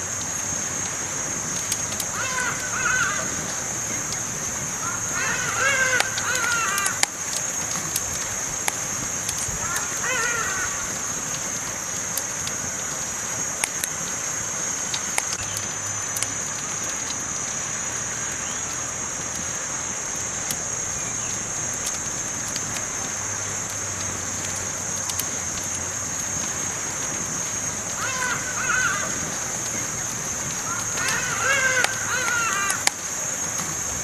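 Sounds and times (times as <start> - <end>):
campfire crackling and hissing: 0.0 - 34.0
high-pitched hiss: 0.0 - 34.0.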